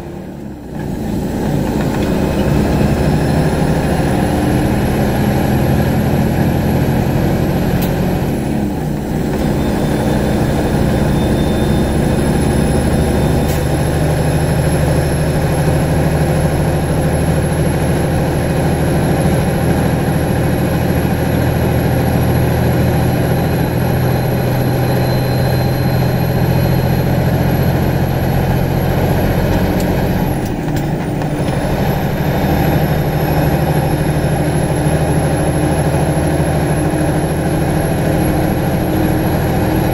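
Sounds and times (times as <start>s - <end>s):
high whine: 0.0s - 39.9s
truck diesel engine running: 0.0s - 39.9s.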